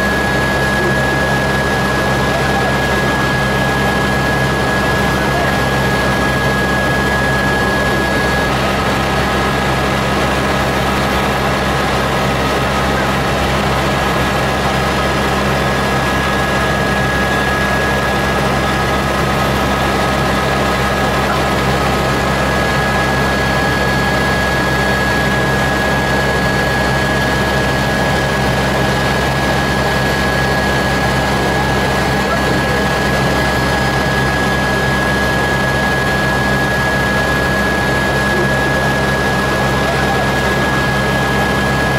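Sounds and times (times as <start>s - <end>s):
helicopter rotor and engine drone: 0.0s - 41.9s
high whine: 0.0s - 41.9s.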